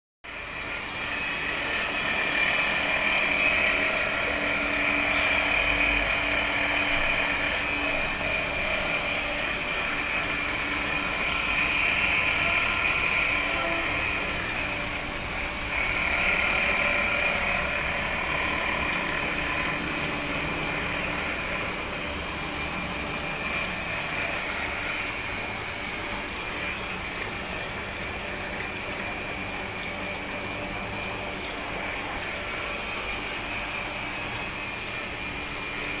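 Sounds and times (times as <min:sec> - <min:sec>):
electric water pump humming: 0:00.2 - 0:36.0.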